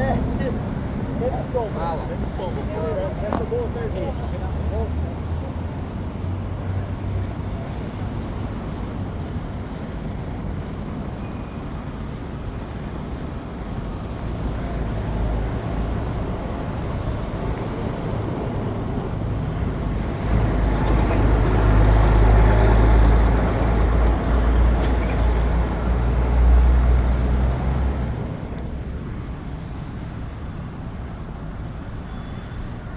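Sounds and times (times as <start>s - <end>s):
city street traffic: 0.0s - 32.9s
large vehicle engine rumble: 0.0s - 32.9s.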